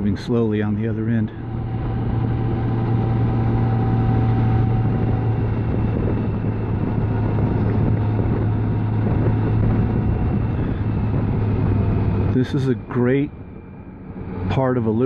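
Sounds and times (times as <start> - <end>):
motorcycle engine hum: 0.0 - 15.0
wind noise: 0.0 - 15.0.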